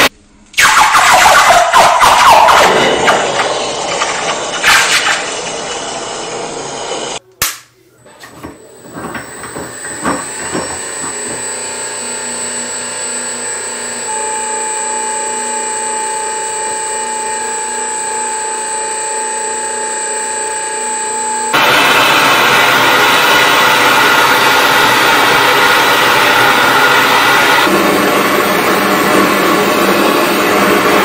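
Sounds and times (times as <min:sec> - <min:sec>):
rolling mill motor whining: 0:02.7 - 0:07.2, 0:08.0 - 0:31.0.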